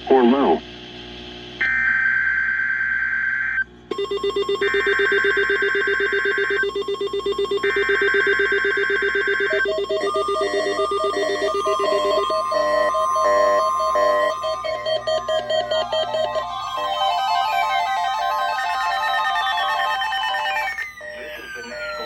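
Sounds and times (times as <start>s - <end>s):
electronic alert tone pulsing: 3.9s - 22.0s
screeching data tone bursts: 3.9s - 22.0s.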